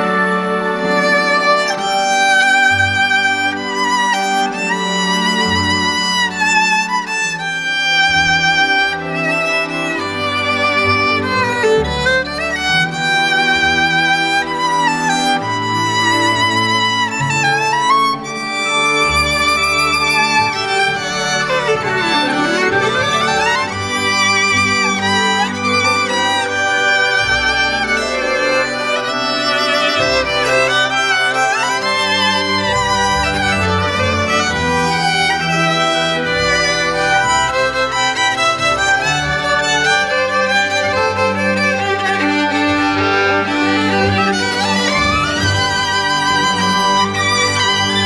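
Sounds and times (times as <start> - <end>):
held accompanying notes: 0.0 - 48.0
violin melody: 0.0 - 48.0.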